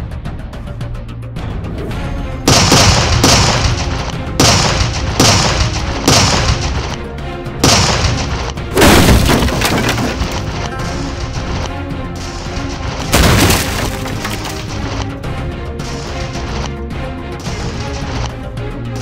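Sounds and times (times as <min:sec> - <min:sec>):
dramatic soundtrack music: 0:00.0 - 0:19.0.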